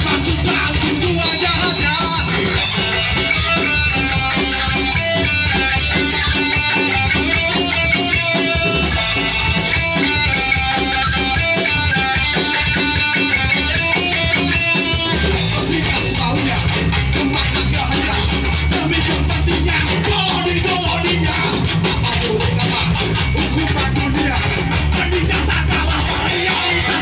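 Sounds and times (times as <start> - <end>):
loud rock band playing: 0.0 - 27.0
picked electric guitar riff: 0.0 - 27.0.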